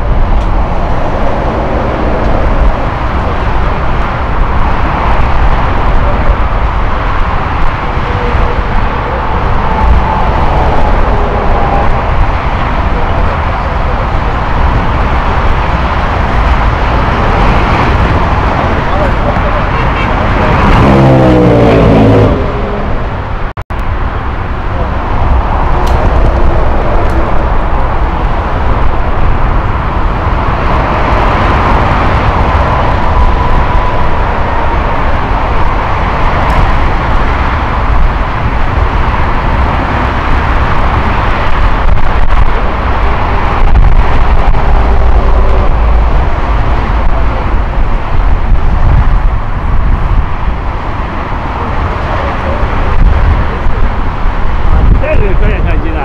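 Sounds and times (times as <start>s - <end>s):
jet engine rumble: 0.0s - 56.0s.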